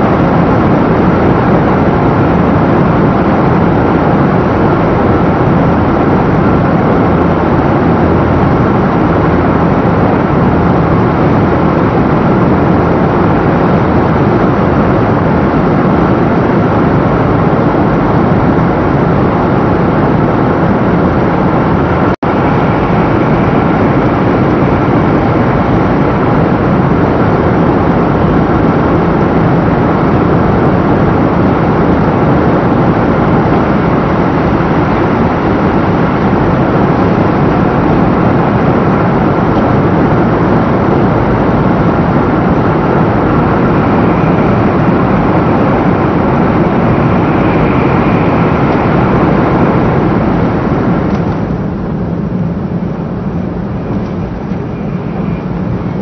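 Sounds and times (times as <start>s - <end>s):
train running noise rumble: 0.0s - 56.0s.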